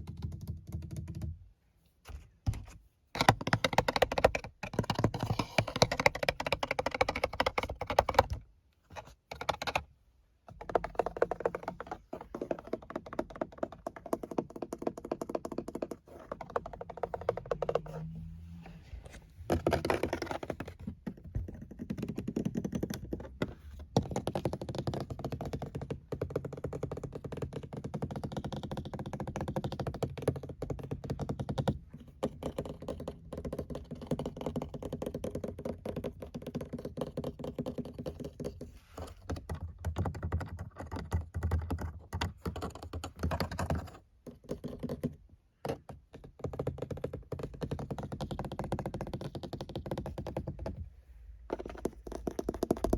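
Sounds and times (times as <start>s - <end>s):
fast tapping on car: 3.2s - 8.4s, 10.5s - 18.0s, 19.4s - 50.9s, 51.5s - 52.9s.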